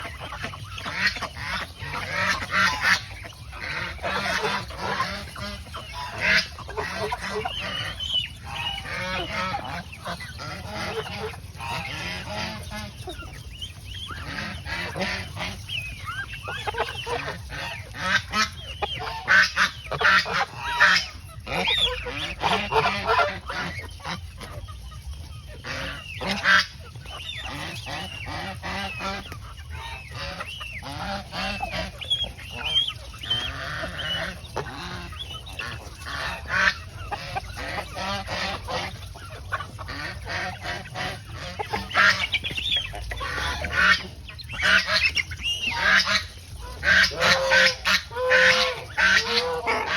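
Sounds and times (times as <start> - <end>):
geese honking: 0.0 - 49.9.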